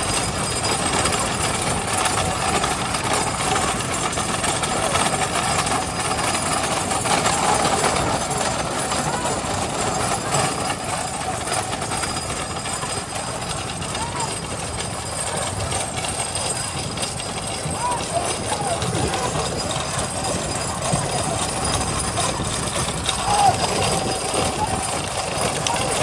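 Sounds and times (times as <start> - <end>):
motorbike engine: 0.0 - 26.0
wooden cart wheels rattling on asphalt: 0.0 - 26.0.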